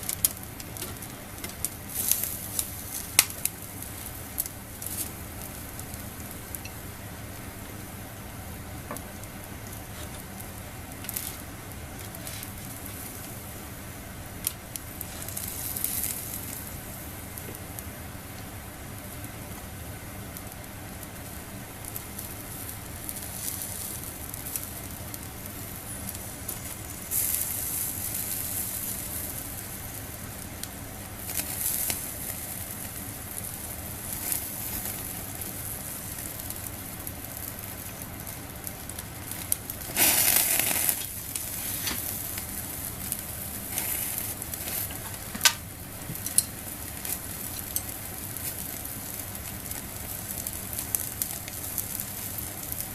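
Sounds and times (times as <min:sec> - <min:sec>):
sharp crackles: 0:00.0 - 0:06.7, 0:09.1 - 0:13.6, 0:14.4 - 0:17.9, 0:20.4 - 0:52.9
food sizzling on a grill: 0:00.0 - 0:52.9.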